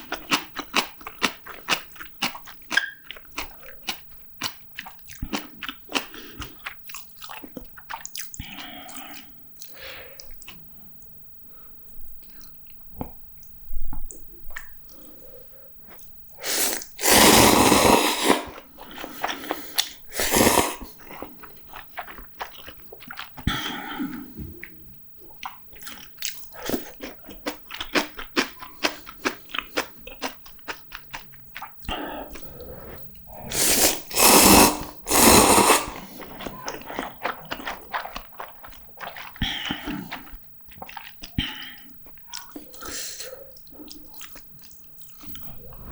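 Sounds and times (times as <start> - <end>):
person chewing: 0.0 - 10.6, 14.1 - 45.9
wet mouth clicks and smacks: 0.0 - 10.6, 12.2 - 15.2, 19.2 - 23.7, 24.6 - 45.8.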